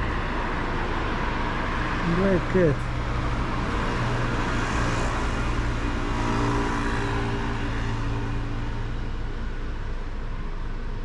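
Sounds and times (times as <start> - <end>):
vehicle engine hum with road noise: 0.0 - 11.0.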